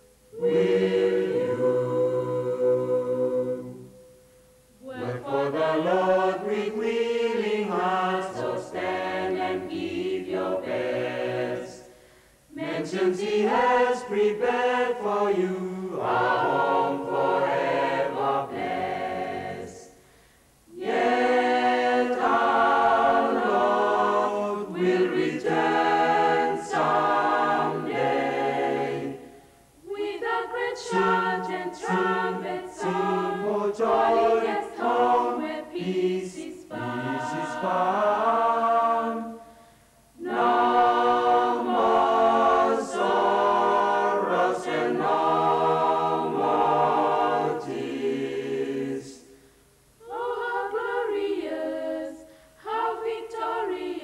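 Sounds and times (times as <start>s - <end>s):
mixed choir singing gospel: 0.0s - 4.1s, 4.8s - 54.0s.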